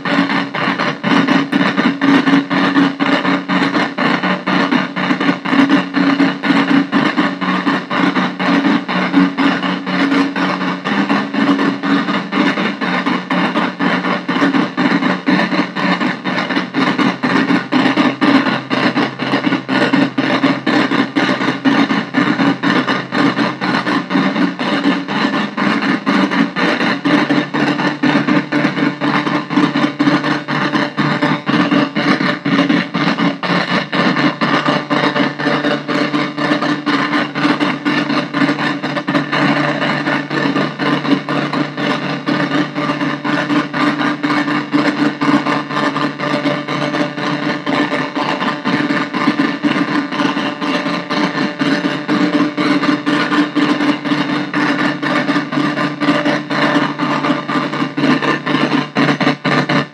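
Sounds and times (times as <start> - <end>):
noisy synthesizer drone: 0.0 - 59.9.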